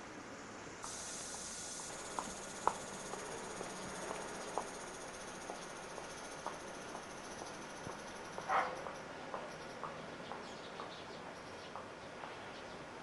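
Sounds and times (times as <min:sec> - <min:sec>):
cicadas buzzing: 0:00.8 - 0:12.0.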